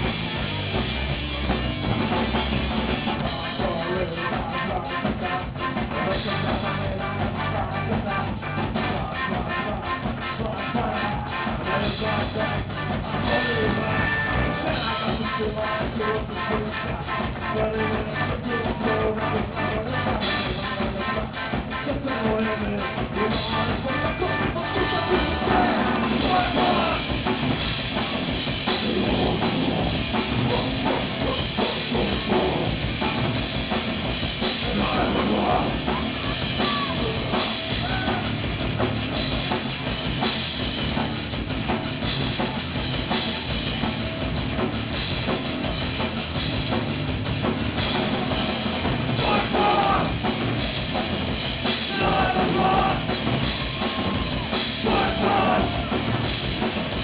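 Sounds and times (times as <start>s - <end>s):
distorted guitars: 0.0s - 57.0s
drum kit: 0.0s - 57.0s.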